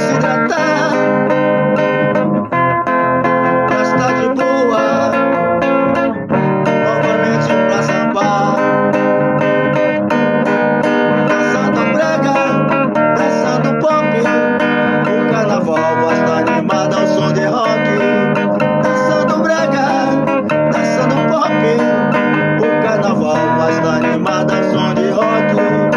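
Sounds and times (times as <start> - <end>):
rock music with guitar: 0.0 - 25.9.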